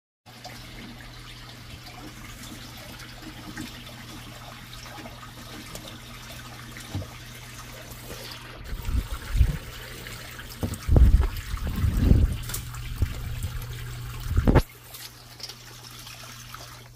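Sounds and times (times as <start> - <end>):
water trickling into pool: 0.3 - 16.9.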